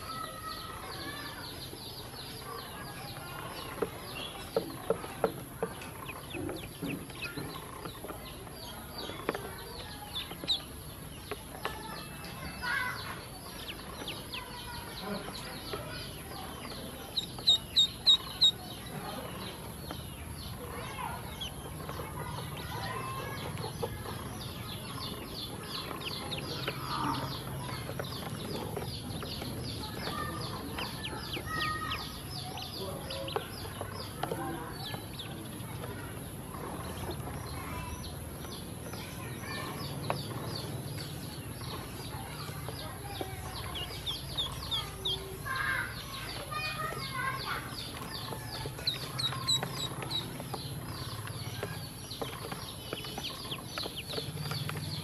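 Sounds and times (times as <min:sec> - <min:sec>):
ducklings peeping: 0:00.0 - 0:55.0.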